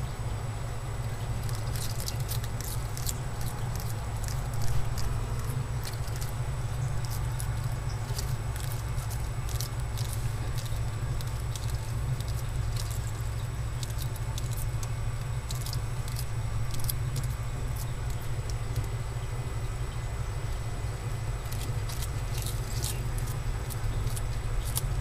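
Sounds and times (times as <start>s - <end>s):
steady low hum: 0.0s - 25.0s
lizard chewing lettuce: 0.8s - 25.0s.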